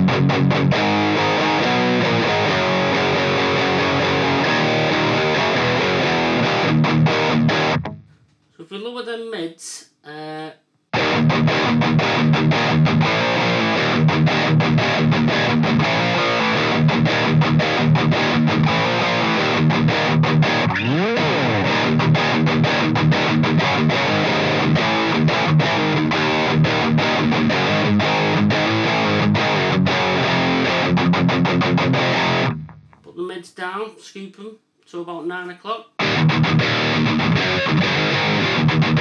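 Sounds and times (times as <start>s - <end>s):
distorted electric guitar riffing: 0.0s - 8.2s, 10.9s - 33.1s, 36.0s - 39.0s.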